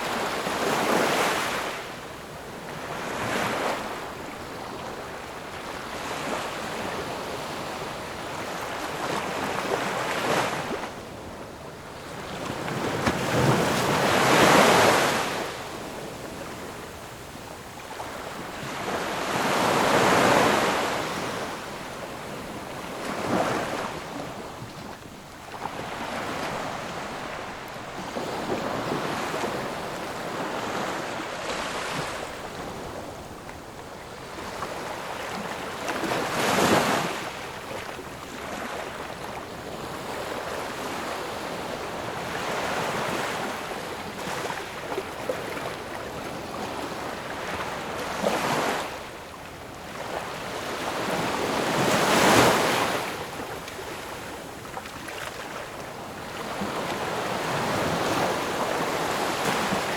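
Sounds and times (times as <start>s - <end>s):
ocean waves crashing ashore: 0.0s - 59.9s.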